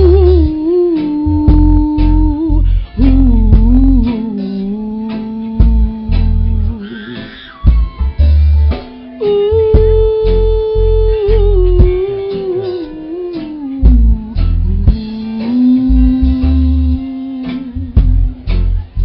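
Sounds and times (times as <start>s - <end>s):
woman singing held notes: 0.0s - 7.2s, 9.2s - 18.3s
heavy bass: 0.0s - 19.0s
plucked guitar: 0.0s - 19.0s.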